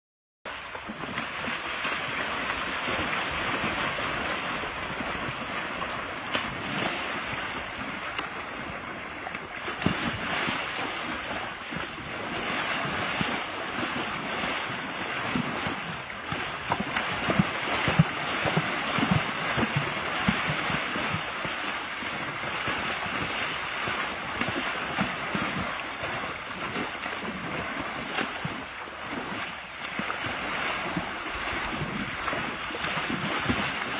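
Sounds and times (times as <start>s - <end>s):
short irregular splashes: 0.5s - 33.9s
water rushing: 0.5s - 33.9s.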